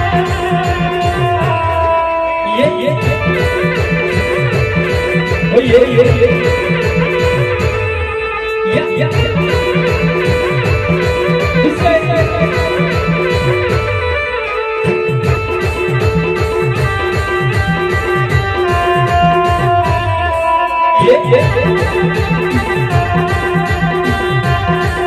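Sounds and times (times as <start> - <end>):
plucked electric guitar lead: 0.0 - 25.0.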